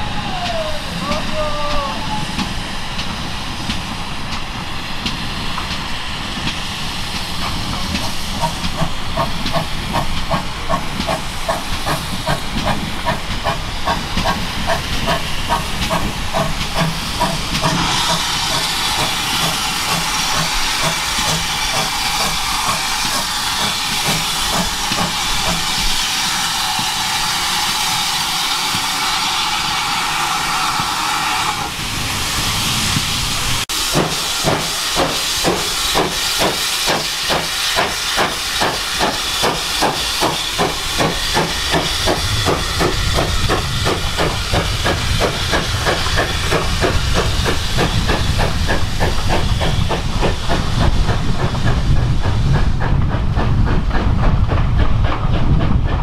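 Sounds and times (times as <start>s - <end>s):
loud steam hiss: 0.0s - 56.0s
steam locomotive exhaust beats: 0.0s - 56.0s.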